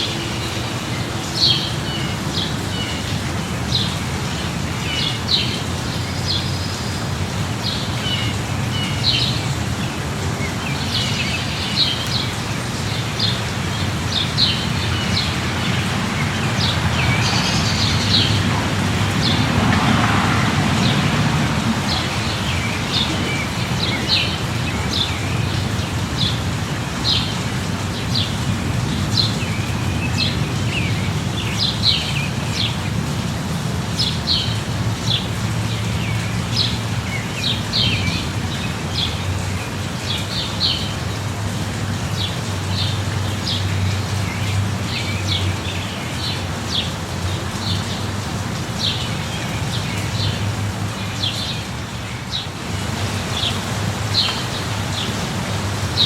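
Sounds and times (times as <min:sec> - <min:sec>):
light rain: 0:00.0 - 0:56.0.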